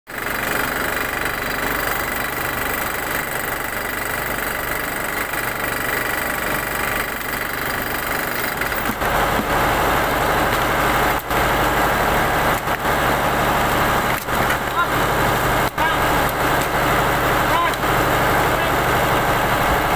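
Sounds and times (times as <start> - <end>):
engine humming: 1.6 - 19.9.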